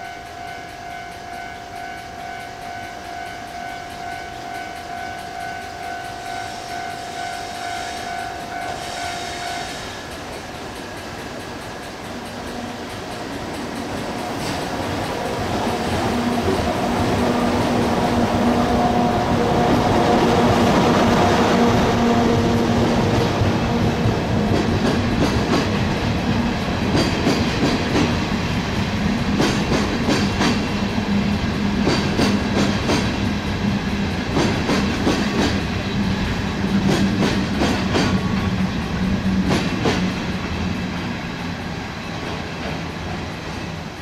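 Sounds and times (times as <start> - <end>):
freight train rolling past: 0.0 - 44.0
wheels clacking over rail joint: 3.0 - 44.0.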